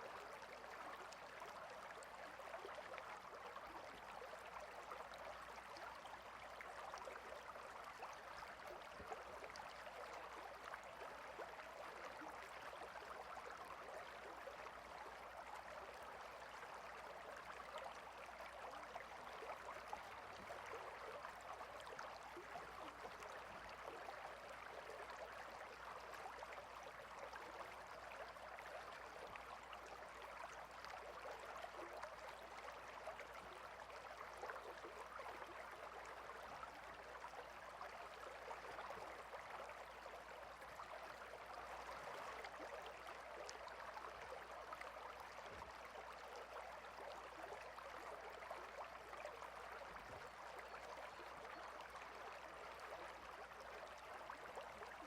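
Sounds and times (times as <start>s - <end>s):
small stream babbling: 0.0s - 55.0s.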